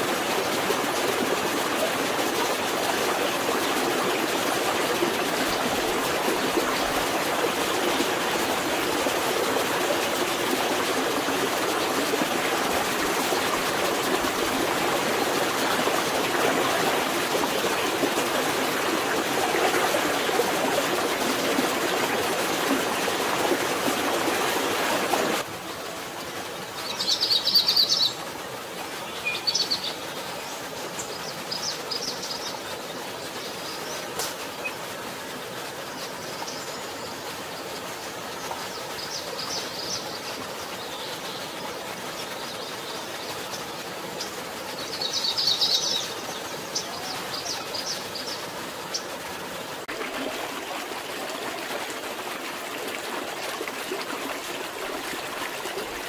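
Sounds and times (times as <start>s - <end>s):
stream rushing: 0.0s - 56.0s.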